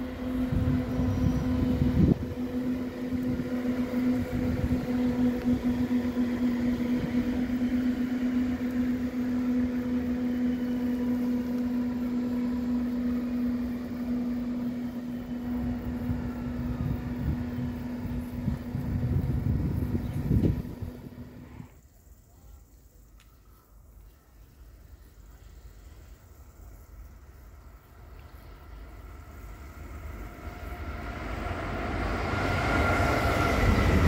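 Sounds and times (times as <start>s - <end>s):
train wheels rumbling: 0.0s - 21.6s, 24.9s - 34.0s
electric train droning hum: 0.0s - 34.0s
faint whines gliding in pitch: 0.0s - 34.0s.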